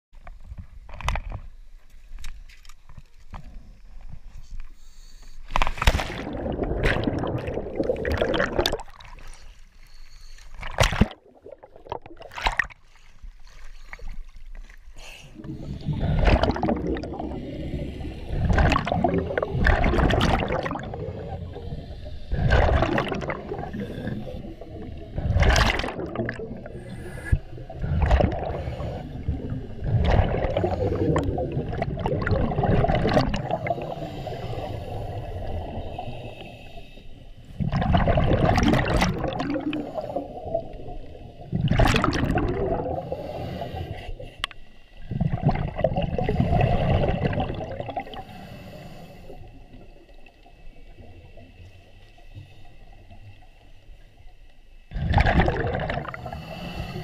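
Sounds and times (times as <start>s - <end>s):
muffled underwater water noise: 0.2s - 57.0s.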